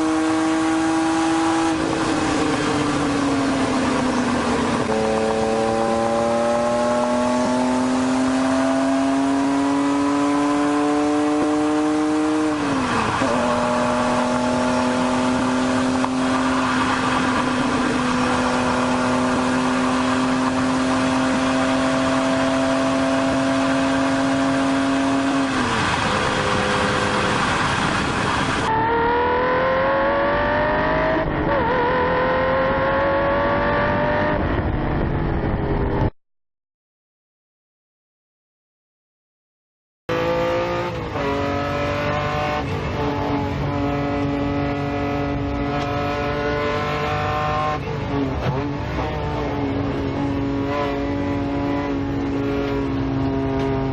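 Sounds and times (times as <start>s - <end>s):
car engine accelerating: 0.0s - 36.1s, 40.1s - 53.9s.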